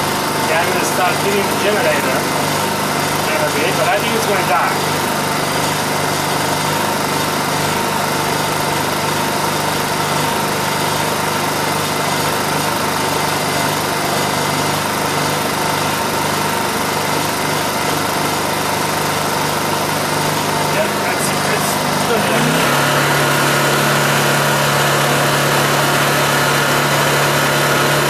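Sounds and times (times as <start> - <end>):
generator engine humming: 0.0 - 28.0.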